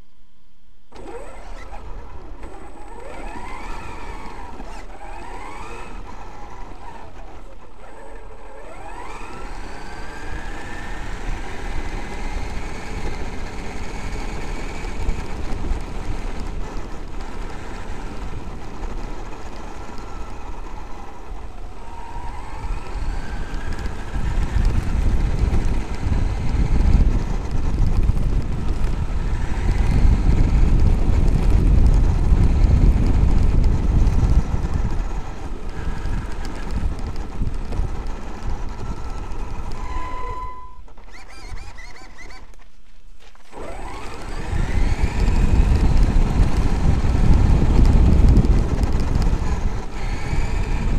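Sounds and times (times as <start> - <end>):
electric motor whining: 0.9 - 50.9
tyres running on gravel: 0.9 - 50.9.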